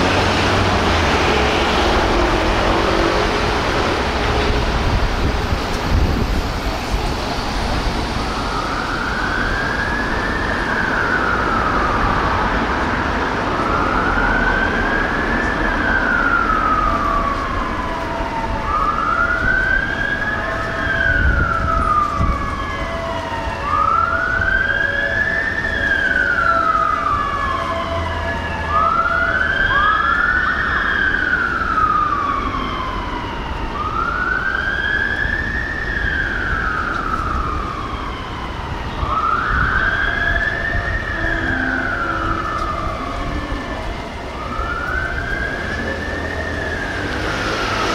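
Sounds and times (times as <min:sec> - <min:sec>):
fire engine siren wailing: 0:00.0 - 0:47.9
traffic noise: 0:00.0 - 0:47.9.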